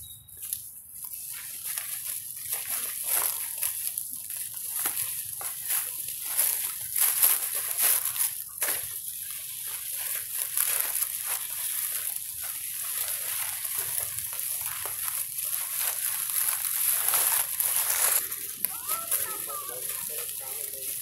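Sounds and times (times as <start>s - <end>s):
high-pitched hiss: 0.0s - 21.0s
footsteps on dry leaves: 0.4s - 21.0s.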